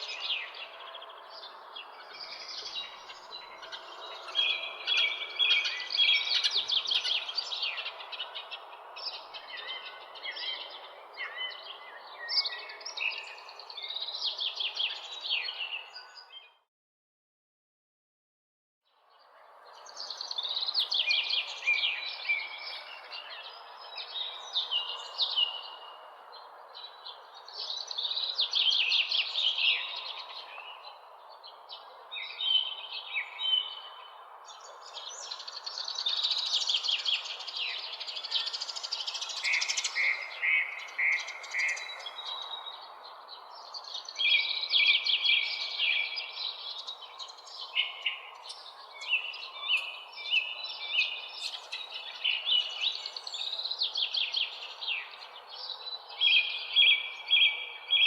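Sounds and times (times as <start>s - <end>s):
songbirds chirping and trilling: 0.0s - 16.7s, 18.9s - 58.0s.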